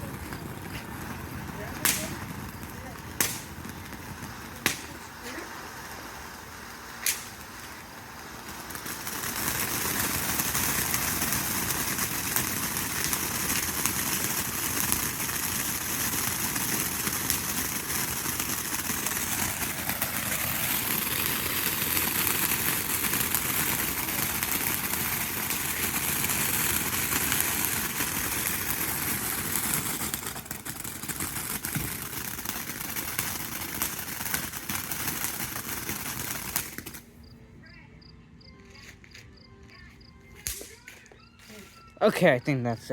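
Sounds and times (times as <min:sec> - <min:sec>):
firework fountain hissing and crackling: 0:00.0 - 0:37.1, 0:40.4 - 0:42.9.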